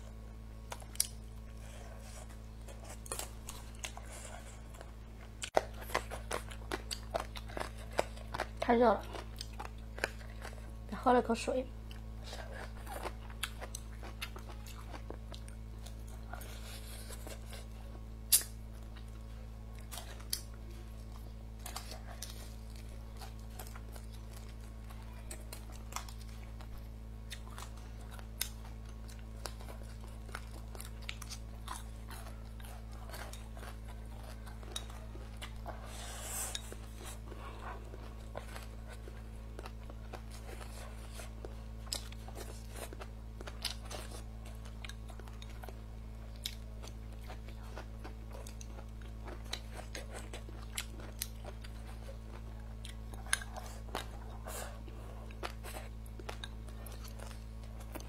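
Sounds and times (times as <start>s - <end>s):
person chewing and crunching food: 0.0s - 58.0s
steady low hum: 0.0s - 58.0s.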